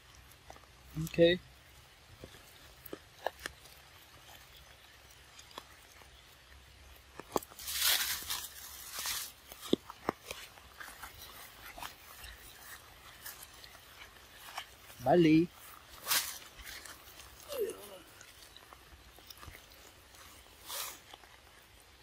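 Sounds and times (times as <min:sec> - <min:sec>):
rustling through wet grass: 0:00.0 - 0:22.0.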